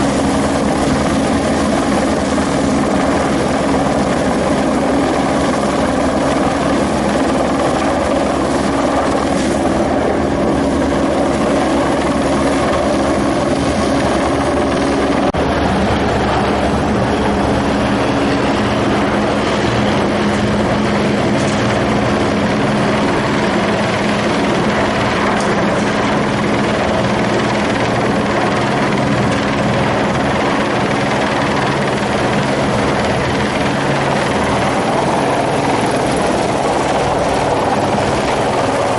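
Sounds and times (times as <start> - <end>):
helicopter droning: 0.0 - 38.9.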